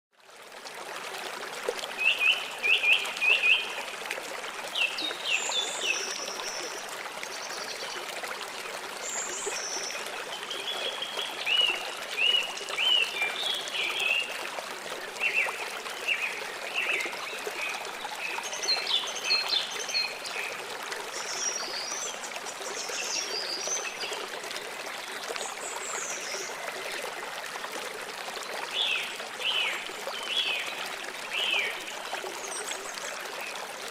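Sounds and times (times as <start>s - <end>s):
small stream running: 0.1s - 33.9s.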